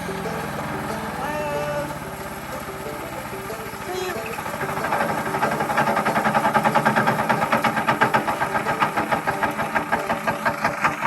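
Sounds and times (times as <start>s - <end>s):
wood chipper engine pulsing: 0.0s - 11.0s.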